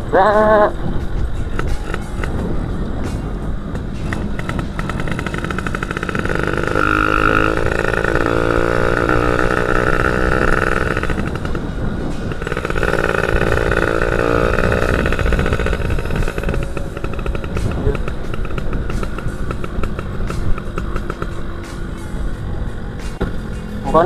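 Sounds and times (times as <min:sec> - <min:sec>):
motorcycle engine revving: 0:00.0 - 0:24.0
wind rumble on microphone: 0:00.0 - 0:24.0.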